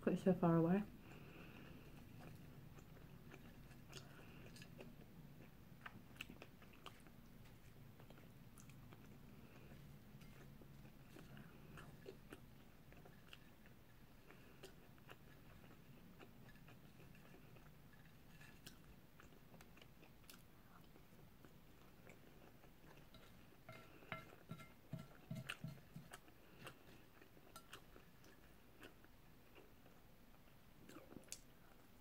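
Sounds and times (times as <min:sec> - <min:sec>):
faint chewing of food: 0:00.9 - 0:32.0.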